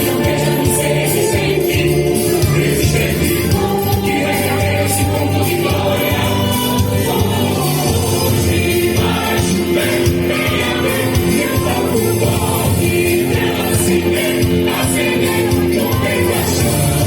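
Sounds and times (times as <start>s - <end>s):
people singing: 0.0s - 17.0s
tambourine-like percussion: 0.0s - 17.0s.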